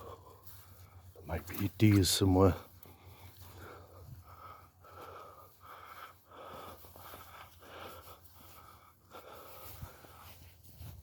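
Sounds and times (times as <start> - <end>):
footsteps on woodland path: 0.0 - 11.0.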